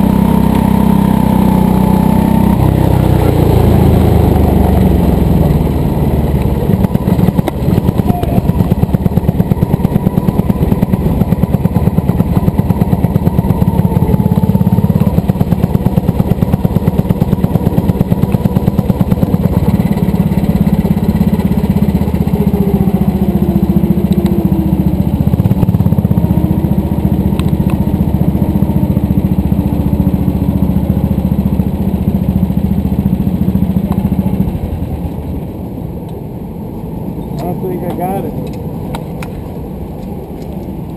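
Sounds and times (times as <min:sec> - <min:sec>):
go-kart engine pulsing: 0:00.0 - 0:40.9.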